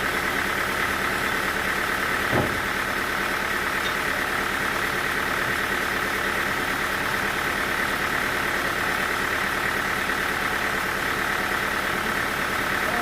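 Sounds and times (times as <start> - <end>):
sawmill machinery drone: 0.0 - 13.0.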